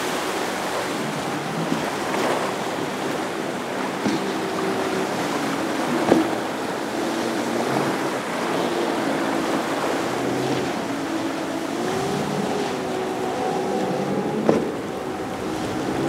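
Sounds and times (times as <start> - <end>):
boat engine drone: 0.0 - 16.0
waves and spray rushing: 0.0 - 16.0.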